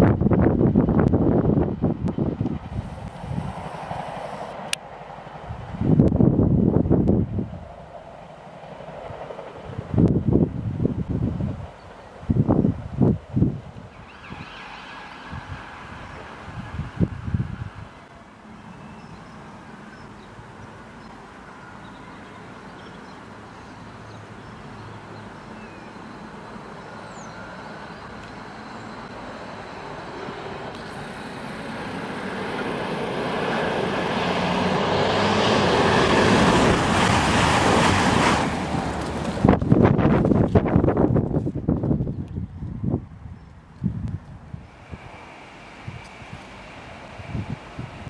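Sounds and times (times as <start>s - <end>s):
train passing at speed: 0.0s - 43.3s, 43.9s - 48.0s.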